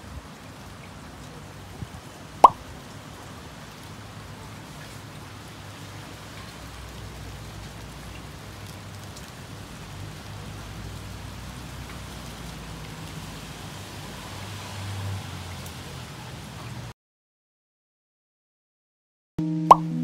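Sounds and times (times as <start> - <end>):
rain falling on rooftops: 0.0 - 17.0.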